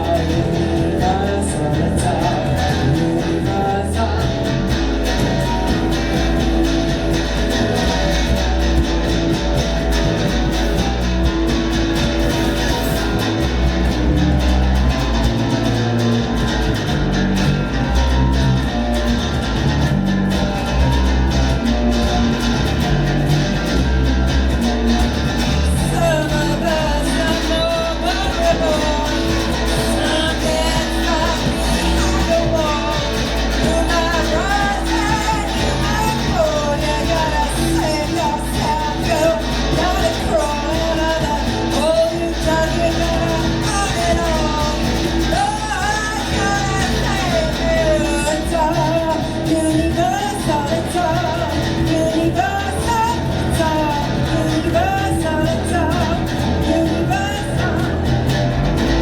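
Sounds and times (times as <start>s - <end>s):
person singing: 0.0s - 59.0s
rock band playing: 0.0s - 59.0s.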